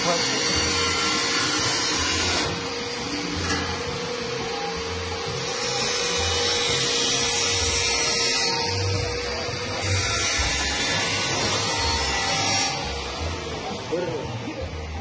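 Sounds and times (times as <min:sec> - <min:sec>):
dough mixer motor whining: 0:00.0 - 0:15.0.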